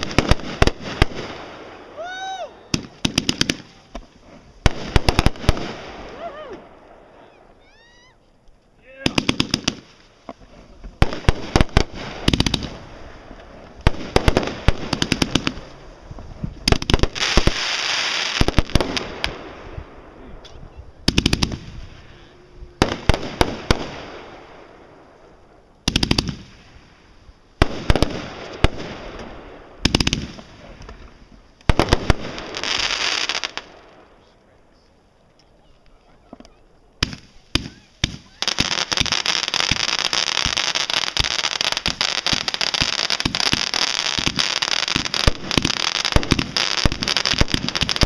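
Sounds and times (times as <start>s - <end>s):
fireworks hiss: 0.0s - 7.6s, 8.8s - 34.2s, 37.0s - 48.0s
fireworks bangs: 0.0s - 8.1s, 8.8s - 34.4s, 35.6s - 48.0s.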